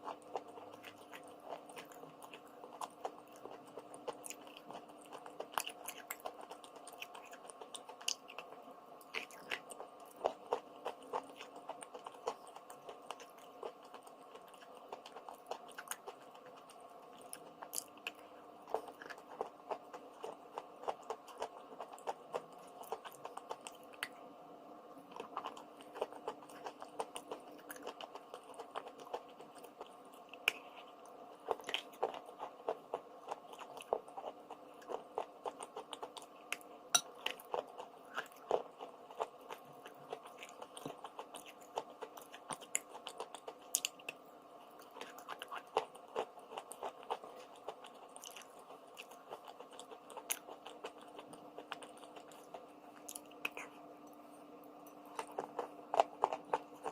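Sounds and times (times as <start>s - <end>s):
mouth chewing crunchy chalk: 0.0s - 24.3s, 25.0s - 56.9s
faint steady hum: 0.0s - 56.9s.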